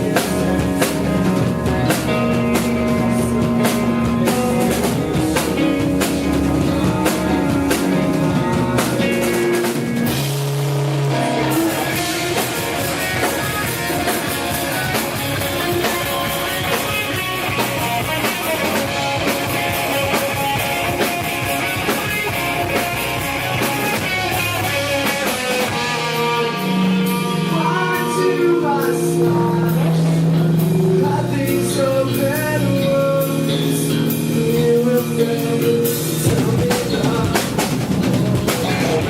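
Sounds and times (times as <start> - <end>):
rock band playing: 0.0 - 39.0.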